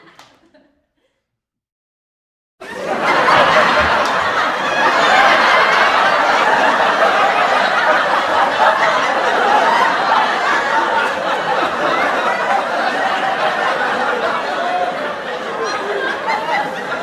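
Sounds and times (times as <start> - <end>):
studio audience laughing: 2.6 - 17.0.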